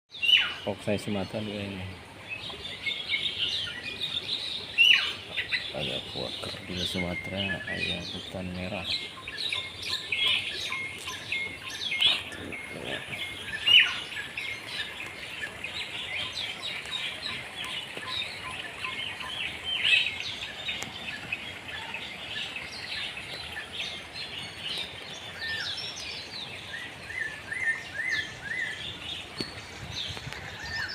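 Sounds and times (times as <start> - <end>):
birds chirping and calling: 0.1 - 30.9.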